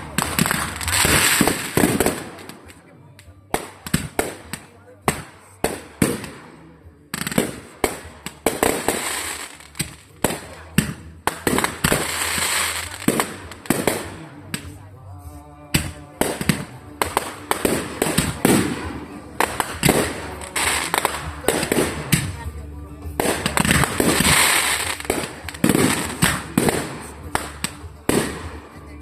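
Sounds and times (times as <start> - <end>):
fireworks bangs: 0.0 - 2.9, 3.5 - 14.9, 15.8 - 29.0
fireworks crackling: 0.0 - 29.0.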